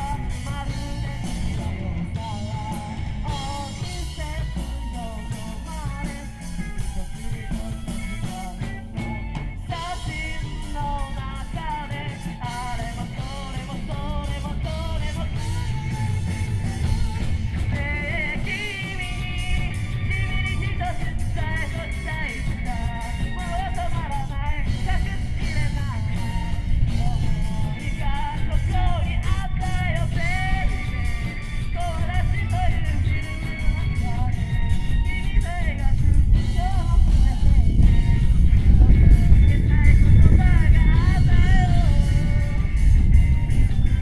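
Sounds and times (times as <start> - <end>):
bass guitar: 0.0 - 44.0
drums: 0.0 - 44.0
electric guitars: 0.0 - 44.0
keyboard: 0.0 - 44.0
person singing: 0.0 - 44.0.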